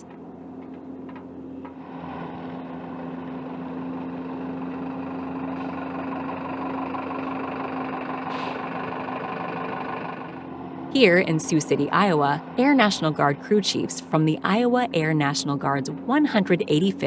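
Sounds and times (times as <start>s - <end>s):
tug engine humming: 0.0s - 17.0s.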